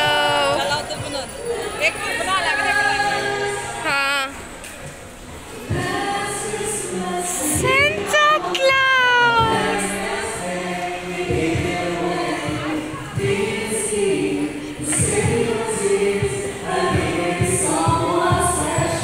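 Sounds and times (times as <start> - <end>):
group singing carols in harmony: 0.0 - 3.9, 5.4 - 19.0.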